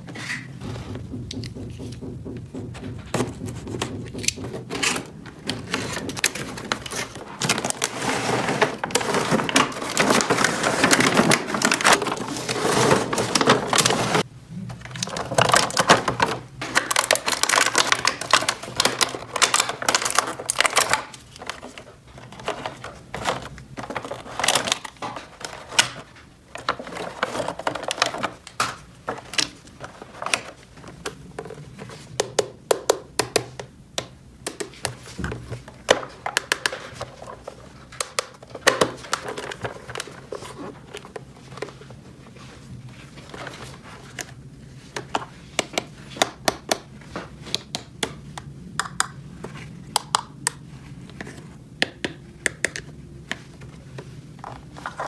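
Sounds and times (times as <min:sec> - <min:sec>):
packaging rustling: 0:00.0 - 0:32.2, 0:34.6 - 0:46.4, 0:53.4 - 0:55.0.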